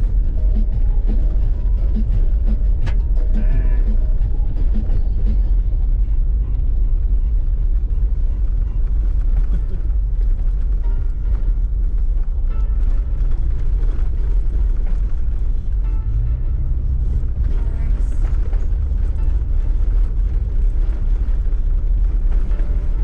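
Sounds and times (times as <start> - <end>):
car driving on unpaved road: 0.0 - 23.0.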